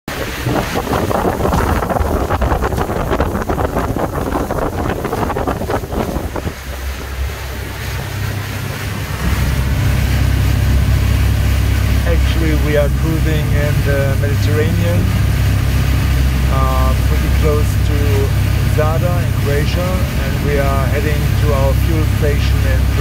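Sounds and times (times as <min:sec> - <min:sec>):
diesel engines droning: 0:00.1 - 0:23.0
wind buffeting microphone: 0:00.1 - 0:23.0.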